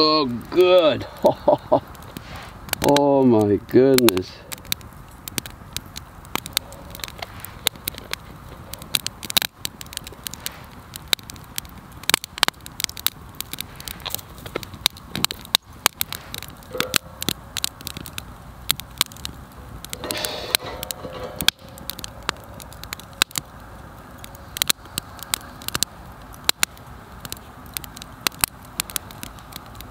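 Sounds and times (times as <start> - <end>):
campfire crackling and popping: 0.0 - 29.9
low steady fire hiss: 0.0 - 29.9.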